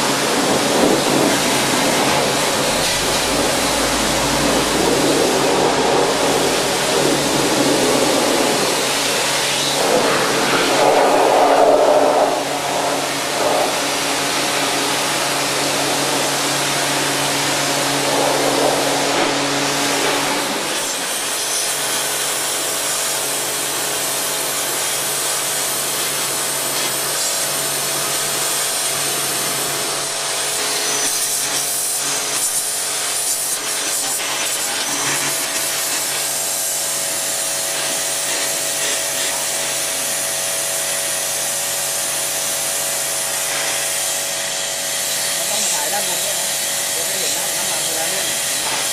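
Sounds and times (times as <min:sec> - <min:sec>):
pressure washer motor hum: 0:00.0 - 0:48.9
water jet hissing: 0:00.0 - 0:48.9.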